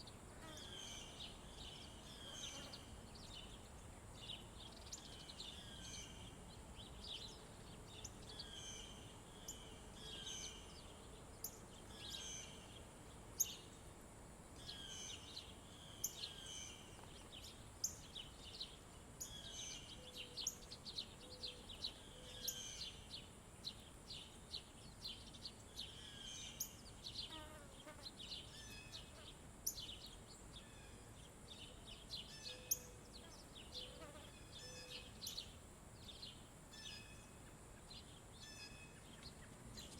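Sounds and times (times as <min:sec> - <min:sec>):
small birds chirping: 0:00.0 - 0:13.9, 0:14.6 - 0:39.9
faint high-pitched hiss: 0:00.0 - 0:39.9.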